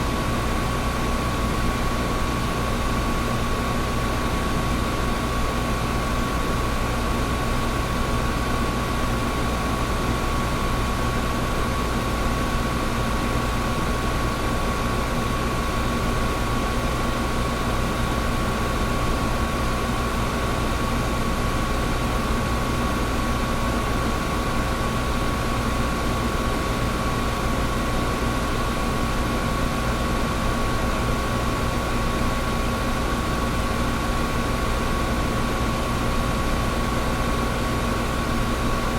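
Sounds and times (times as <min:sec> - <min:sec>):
air conditioner running: 0:00.0 - 0:38.9.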